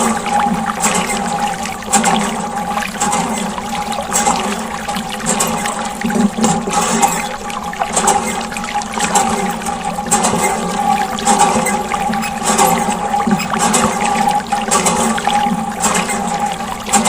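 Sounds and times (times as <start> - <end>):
water gushing and splashing: 0.0 - 17.0.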